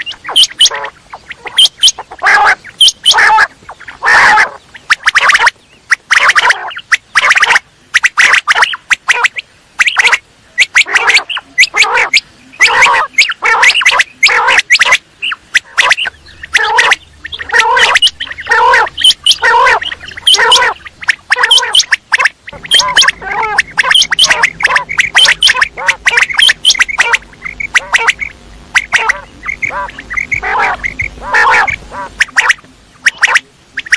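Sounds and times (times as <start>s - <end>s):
quail calling: 0.0s - 33.9s.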